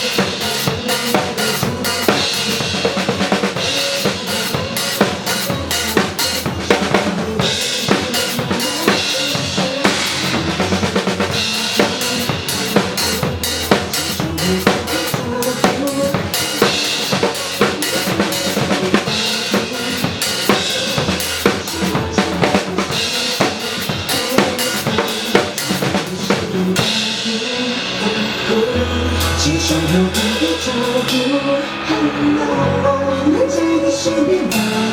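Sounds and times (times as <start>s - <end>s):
drum kit playing: 0.0s - 34.9s
pop backing track: 0.0s - 34.9s.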